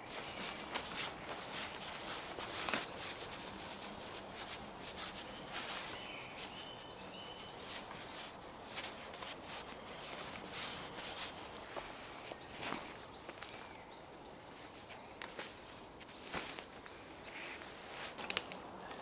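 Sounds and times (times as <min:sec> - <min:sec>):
light rustles: 0:00.0 - 0:19.0.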